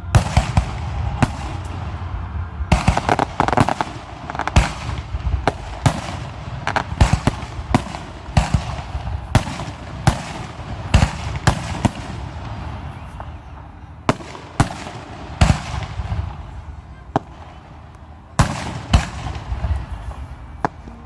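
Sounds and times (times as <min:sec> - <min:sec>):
fireworks bursting with echo: 0:00.0 - 0:21.0.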